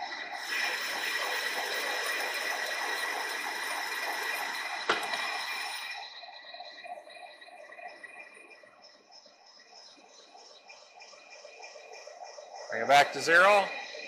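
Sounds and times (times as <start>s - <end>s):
lathe gear whine: 0.0s - 14.0s
rhythmic machine clatter: 0.0s - 14.0s.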